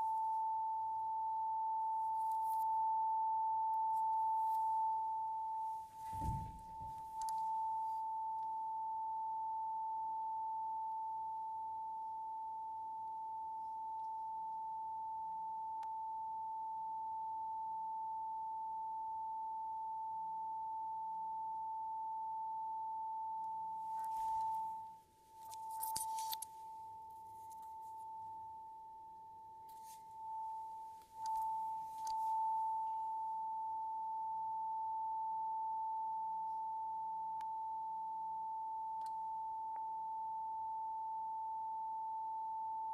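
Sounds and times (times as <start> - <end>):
steady sine tone: 0.0 - 42.9.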